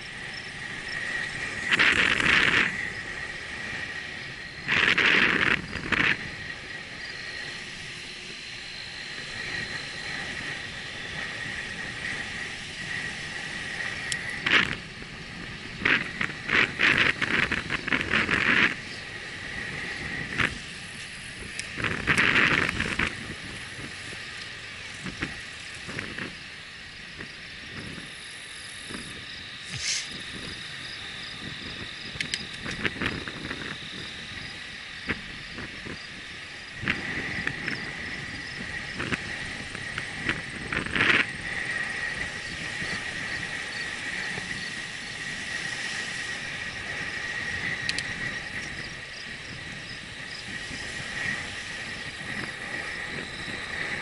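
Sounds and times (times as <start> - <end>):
bicycle rattles and clicks: 0.0 - 54.0
steady high whine: 0.0 - 54.0
wind on microphone: 0.0 - 54.0.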